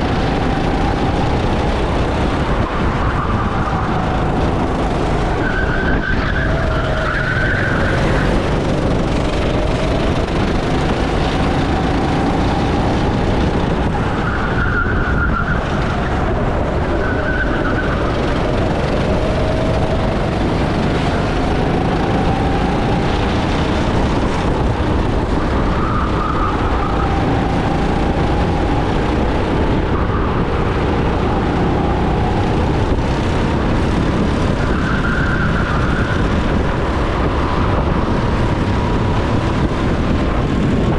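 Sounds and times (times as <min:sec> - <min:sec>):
go-kart engine: 0:00.0 - 0:40.9.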